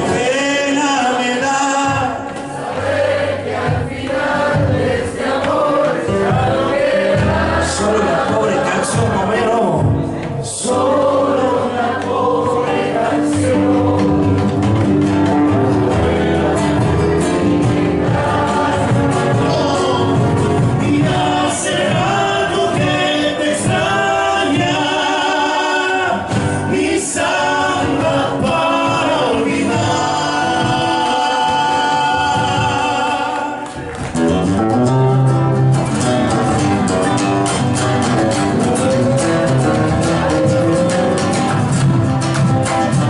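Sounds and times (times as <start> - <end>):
folk song with group singing: 0.0 - 34.2, 35.8 - 43.0.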